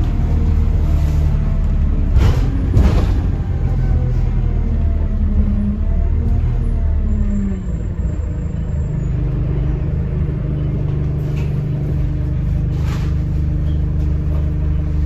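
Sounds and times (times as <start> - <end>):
bus engine low drone: 0.0 - 15.0.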